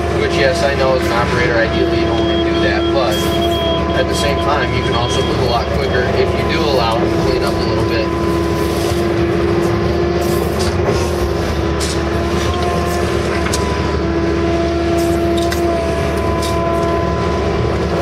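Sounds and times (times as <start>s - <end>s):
excavator diesel engine running: 0.0s - 18.0s
hydraulic whine: 0.0s - 18.0s.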